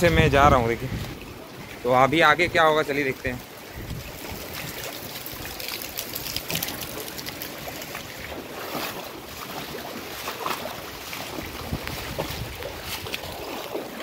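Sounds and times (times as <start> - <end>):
rain: 0.0 - 14.0
steady wash of water: 0.0 - 14.0
water splashing around bicycle wheel: 0.0 - 14.0.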